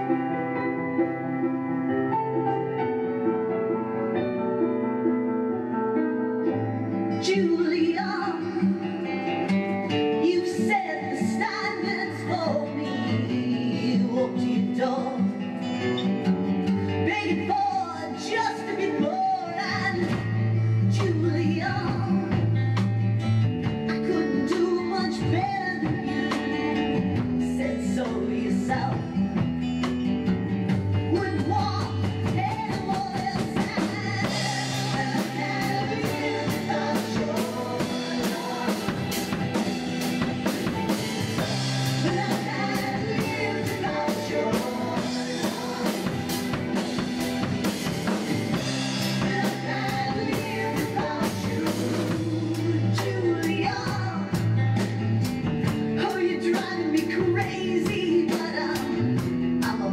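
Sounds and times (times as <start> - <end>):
rock song with singing and guitar: 0.0 - 59.9.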